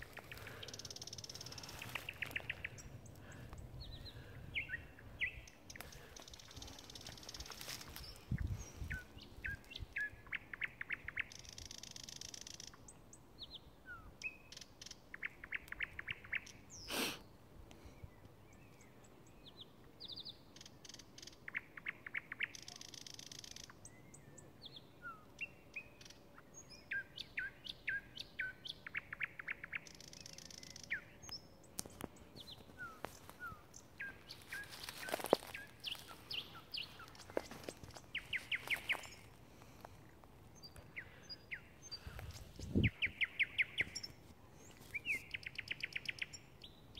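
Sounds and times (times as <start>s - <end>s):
nightingale singing: 0.0s - 17.3s, 18.5s - 46.9s.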